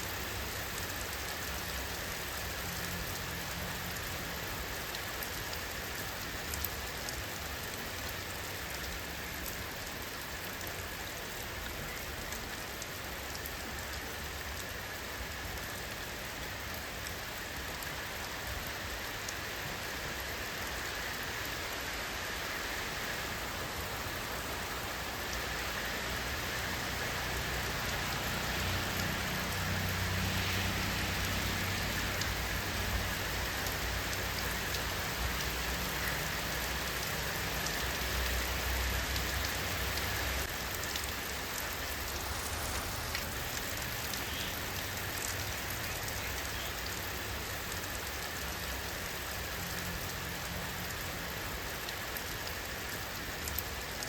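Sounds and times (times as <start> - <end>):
steady rainfall: 0.0 - 54.0
raindrops ticking: 0.1 - 21.6, 23.7 - 54.0.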